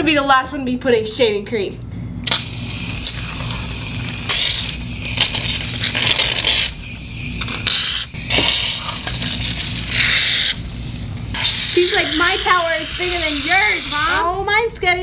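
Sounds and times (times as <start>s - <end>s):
aerosol cans hissing: 2.2s - 14.3s.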